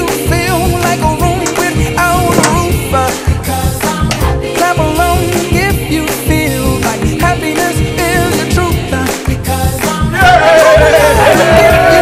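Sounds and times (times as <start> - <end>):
song with sung melody and beat: 0.0 - 12.0.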